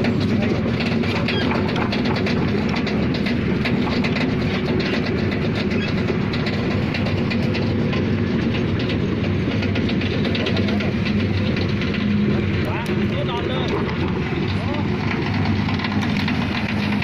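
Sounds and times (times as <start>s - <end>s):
excavator diesel engine running: 0.0s - 17.0s
metallic clicking and clanking: 0.0s - 17.0s.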